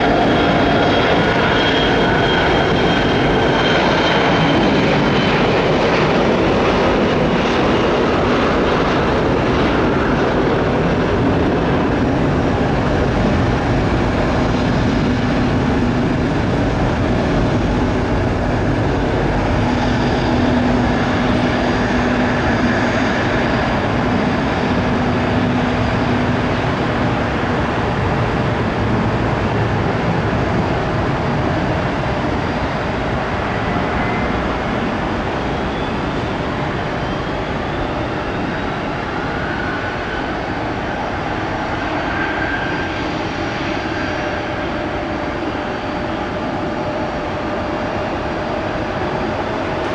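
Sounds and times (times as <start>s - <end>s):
high engine whine: 0.0s - 49.9s
jet engines roaring: 0.0s - 49.9s.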